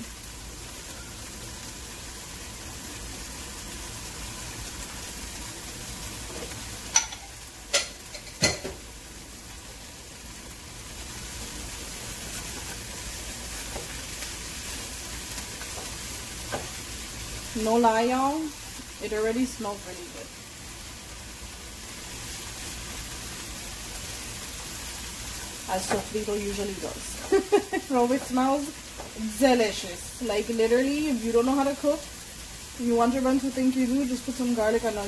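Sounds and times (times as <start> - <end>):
vegetables sizzling in a frying pan: 0.0 - 35.0
spatula stirring vegetables in pan: 0.1 - 19.7, 20.5 - 34.9.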